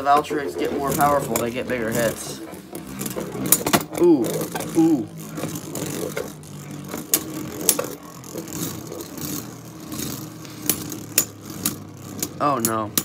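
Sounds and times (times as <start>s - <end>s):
spinning tops clacking: 0.0s - 13.0s
spinning tops whirring: 0.0s - 13.0s.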